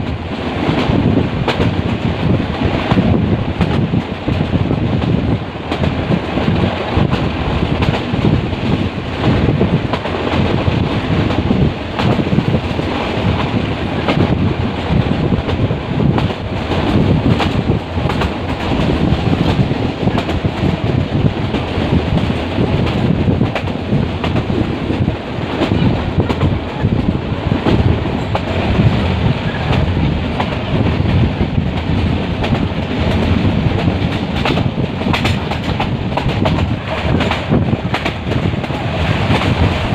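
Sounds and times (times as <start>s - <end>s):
train wheels clattering over rail joints: 0.1s - 39.9s.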